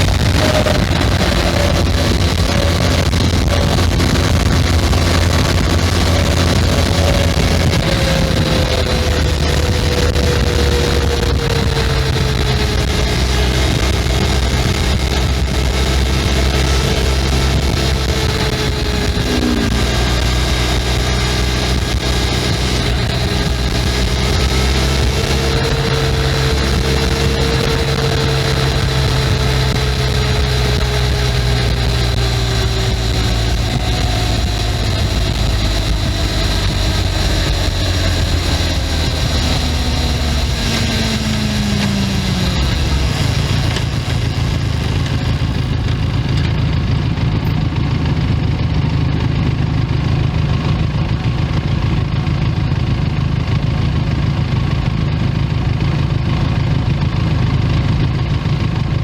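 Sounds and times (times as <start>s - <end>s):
motorcycle engine slowing to idle: 0.0s - 59.0s.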